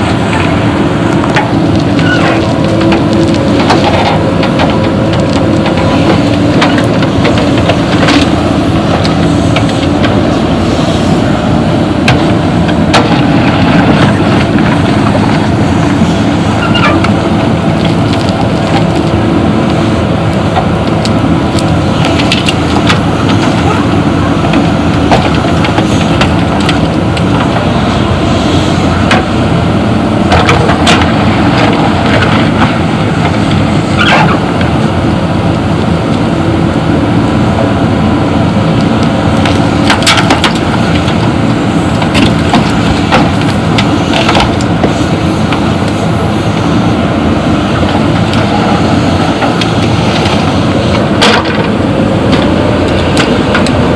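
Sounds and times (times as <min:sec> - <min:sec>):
diesel engine running: 0:00.0 - 0:53.9
gravel knocks and clatter: 0:00.0 - 0:53.9.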